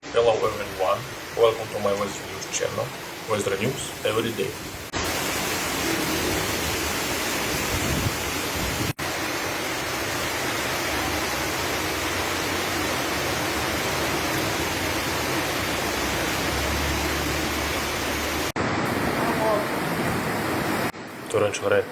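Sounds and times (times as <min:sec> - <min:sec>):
heavy rain: 0:00.0 - 0:21.9
floodwater rushing: 0:00.1 - 0:21.9.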